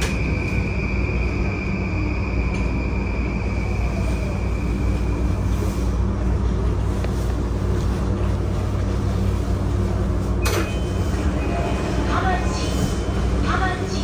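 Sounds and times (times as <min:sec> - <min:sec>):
train car rumble: 0:00.0 - 0:14.0.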